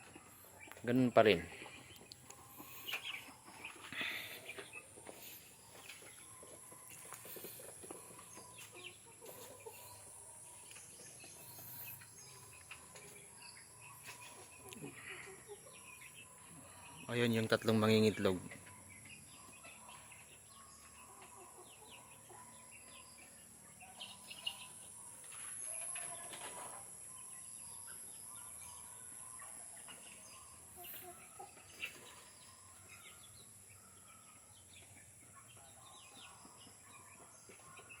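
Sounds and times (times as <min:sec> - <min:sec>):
chickens clucking faintly: 0:00.0 - 0:38.0.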